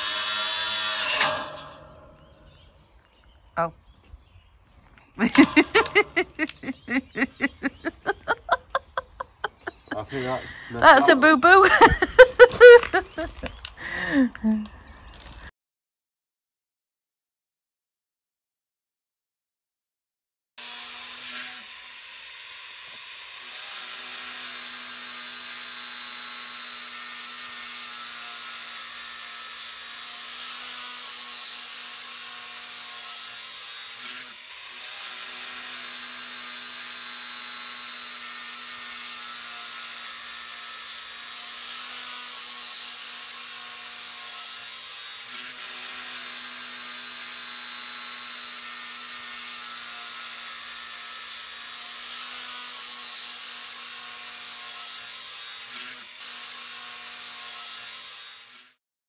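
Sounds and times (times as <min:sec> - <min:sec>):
angle grinder cutting steel mesh: 0:00.0 - 0:02.8, 0:05.2 - 0:14.2, 0:20.6 - 0:58.8.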